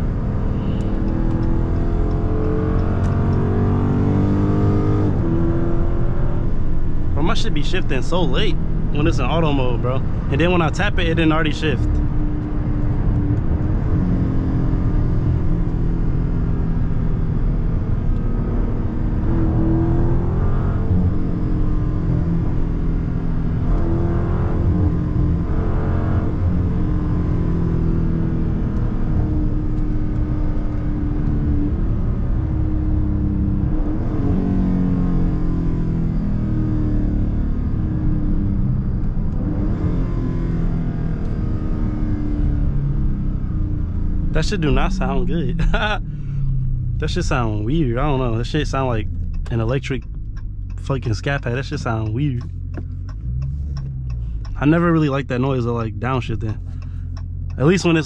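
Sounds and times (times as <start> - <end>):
car engine at highway speed: 0.0 - 58.0
road and tyre noise: 0.0 - 58.0.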